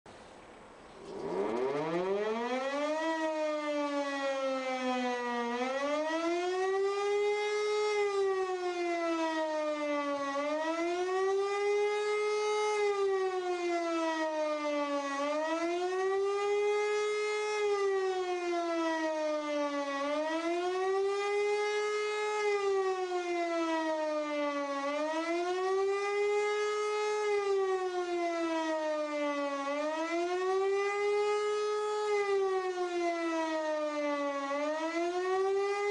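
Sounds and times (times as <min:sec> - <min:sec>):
civil defence siren wailing: 0:00.9 - 0:35.9.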